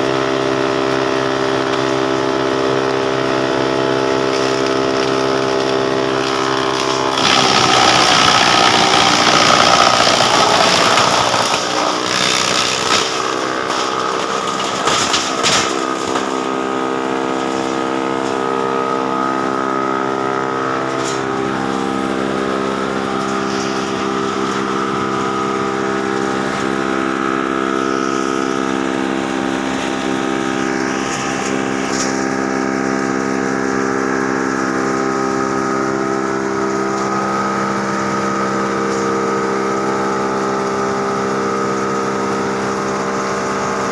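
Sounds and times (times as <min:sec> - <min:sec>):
wood chipper running: 0:00.0 - 0:43.9.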